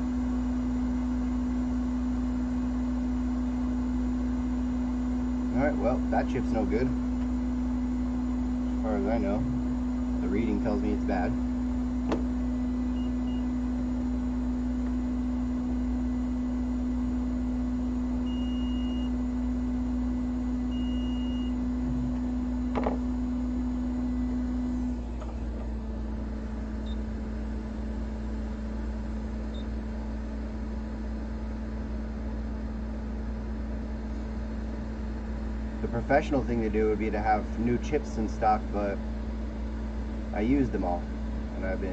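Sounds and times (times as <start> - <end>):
electric motor hum: 0.0 - 41.9.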